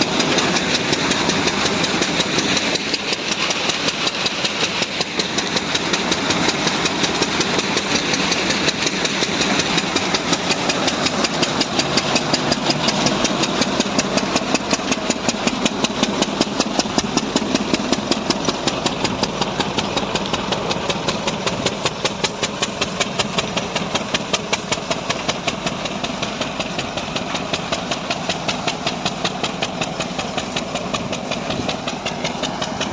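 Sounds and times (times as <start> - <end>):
diesel engine knocking: 0.0 - 32.9
driven machine noise: 0.0 - 32.9.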